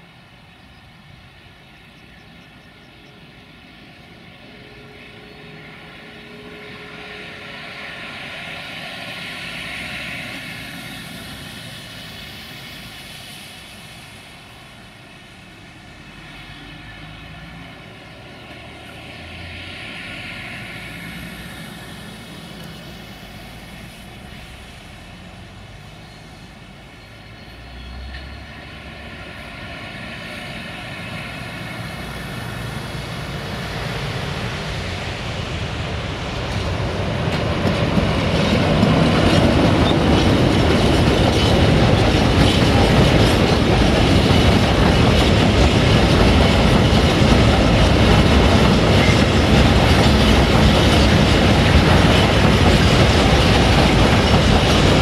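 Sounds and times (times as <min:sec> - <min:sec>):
locomotive engine whine and rumble: 0:00.0 - 0:55.0.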